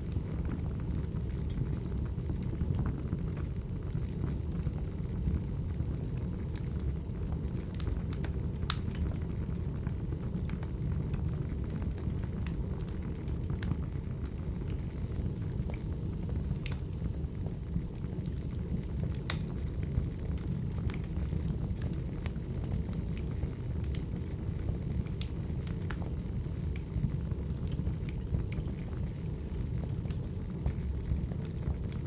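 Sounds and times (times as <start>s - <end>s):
fire rumbling: 0.0s - 32.0s
firewood crackling and popping: 0.0s - 32.0s.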